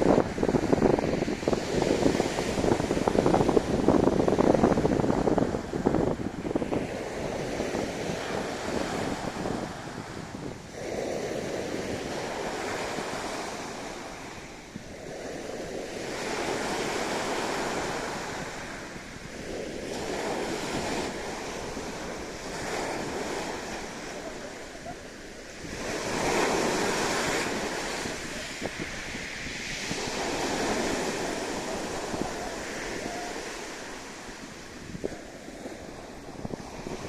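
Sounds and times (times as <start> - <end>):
sea waves breaking on beach: 0.0 - 37.0
wind on microphone: 0.0 - 37.0.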